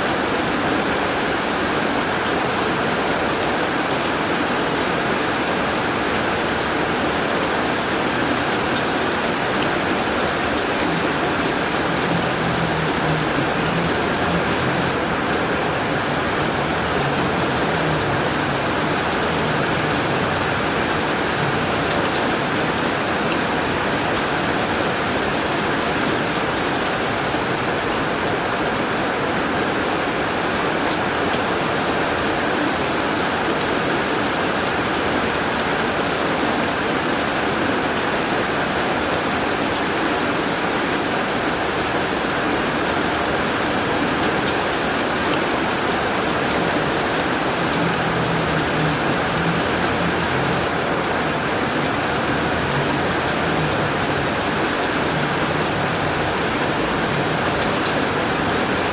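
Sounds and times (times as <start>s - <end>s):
heavy rain on a tin roof: 0.0s - 58.9s.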